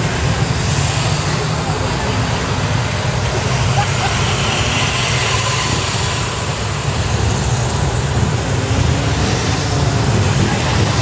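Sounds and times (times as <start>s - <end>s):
vehicles driving past: 0.0s - 11.0s.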